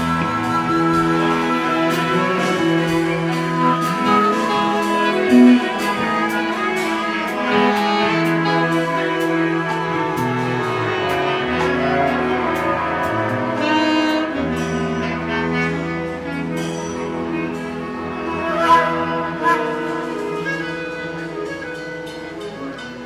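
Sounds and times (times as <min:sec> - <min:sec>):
ensemble playing sustained chords: 0:00.0 - 0:23.0.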